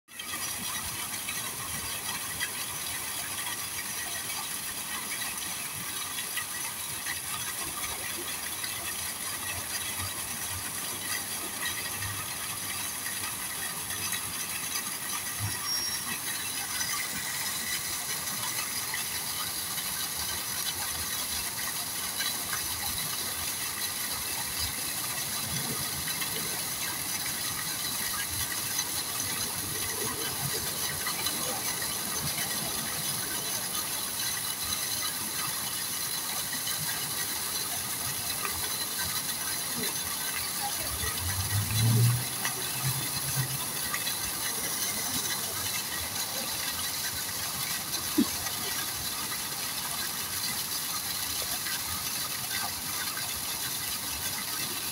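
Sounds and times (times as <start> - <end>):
water splashing in pond: 0.2 - 54.9.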